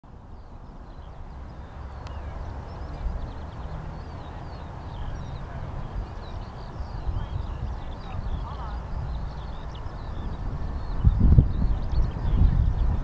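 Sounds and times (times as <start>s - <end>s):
distant jet engines rumbling: 0.1s - 13.0s.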